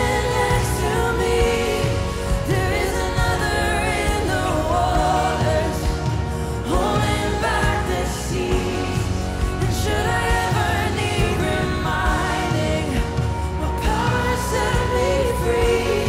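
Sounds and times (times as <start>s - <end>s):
band playing worship music: 0.0s - 16.0s
woman singing: 0.0s - 16.0s.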